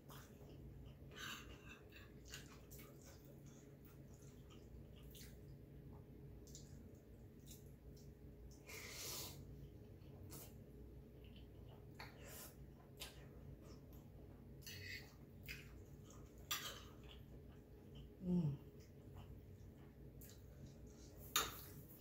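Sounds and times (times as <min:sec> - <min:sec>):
wet chewing and mouth smacks: 0:00.0 - 0:08.6, 0:09.5 - 0:22.0.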